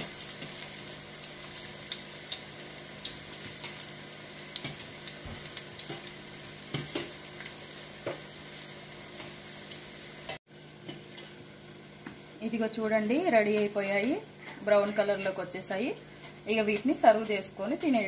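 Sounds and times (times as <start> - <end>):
fritters sizzling in hot oil: 0.0 - 18.0.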